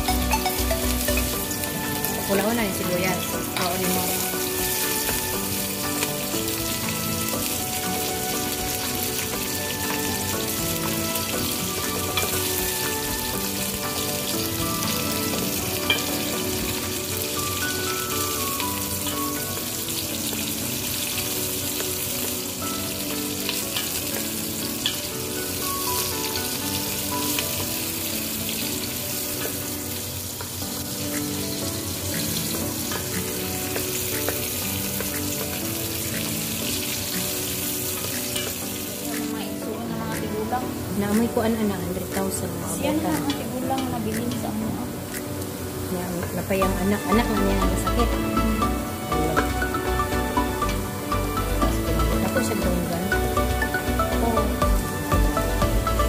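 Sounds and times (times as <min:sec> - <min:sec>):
background music: 0:00.0 - 0:56.0
onions sizzling in oil: 0:00.0 - 0:56.0.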